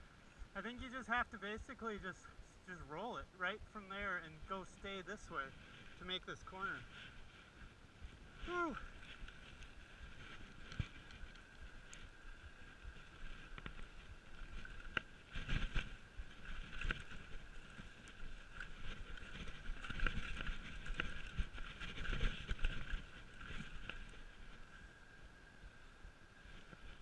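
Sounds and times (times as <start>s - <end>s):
bike tyres on rough dirt trail: 0.0s - 27.0s.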